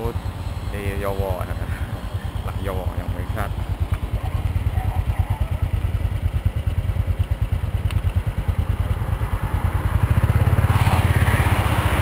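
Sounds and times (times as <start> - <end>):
small motorcycle engine idling: 0.0 - 12.0.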